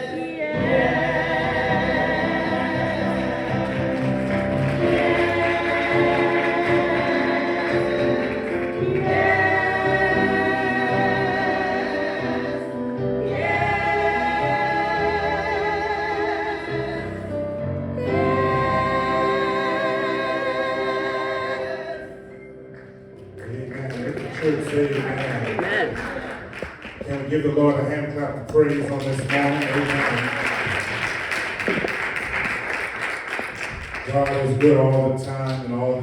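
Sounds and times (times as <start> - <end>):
church choir singing gospel: 0.0 - 27.9, 28.8 - 36.0.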